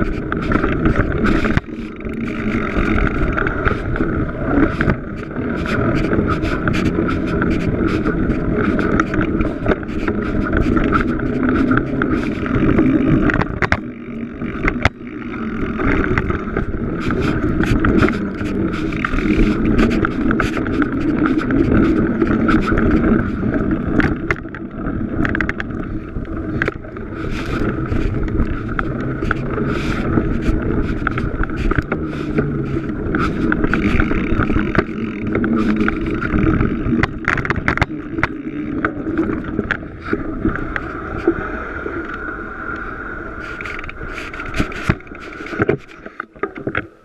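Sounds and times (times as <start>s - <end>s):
bike rattling over bumps: 0.0s - 41.3s, 43.4s - 47.0s
wind on microphone: 0.0s - 46.8s
knobby tyres rumbling on dirt: 0.0s - 47.0s.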